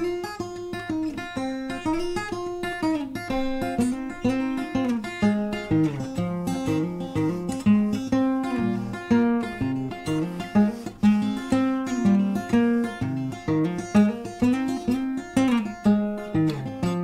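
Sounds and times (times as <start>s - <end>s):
acoustic guitar blues: 0.0s - 17.0s.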